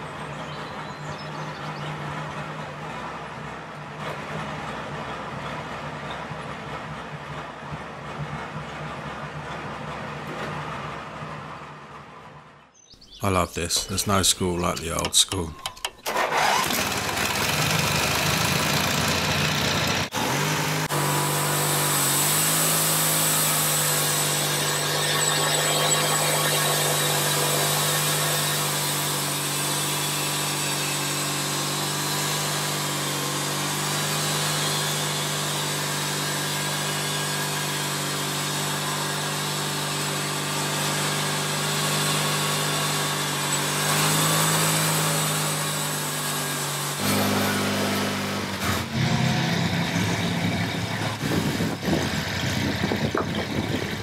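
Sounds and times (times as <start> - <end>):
small sawmill engine running: 0.0 - 12.3, 13.1 - 54.0.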